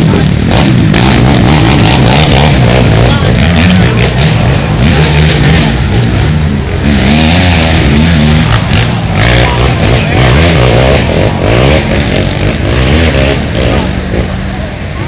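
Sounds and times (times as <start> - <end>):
racing atv engines revving: 0.0 - 15.0.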